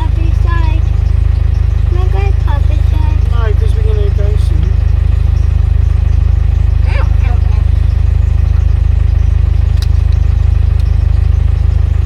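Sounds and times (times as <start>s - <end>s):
car engine drone inside cabin: 0.0s - 12.0s.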